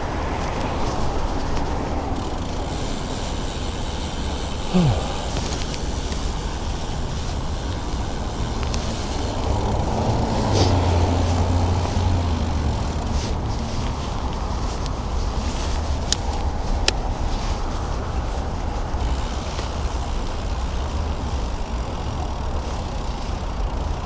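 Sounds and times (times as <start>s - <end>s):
vehicle engine hum: 0.0s - 24.0s
wind and road noise: 0.0s - 24.0s.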